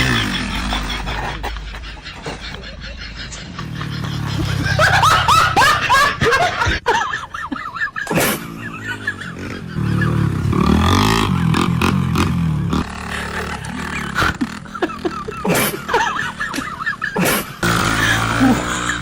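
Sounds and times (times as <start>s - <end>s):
motorcycle engine revving: 0.0s - 1.8s, 3.4s - 6.3s, 8.1s - 19.0s.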